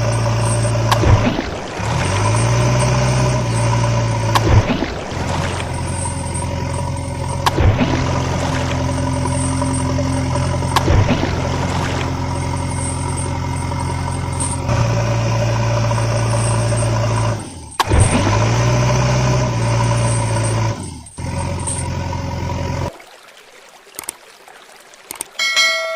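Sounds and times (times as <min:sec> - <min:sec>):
vehicle engine running: 0:00.0 - 0:22.9.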